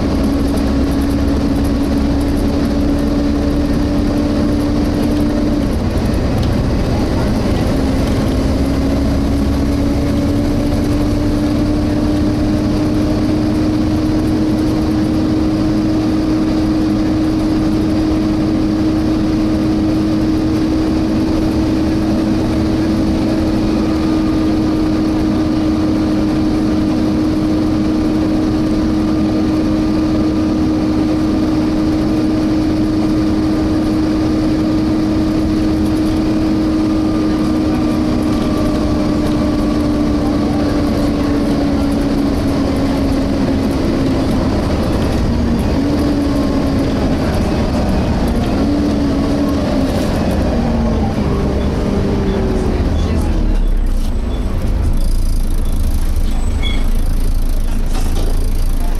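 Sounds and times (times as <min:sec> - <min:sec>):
engine and road rumble: 0:00.0 - 0:58.9
engine cooling fan whining: 0:00.0 - 0:58.9.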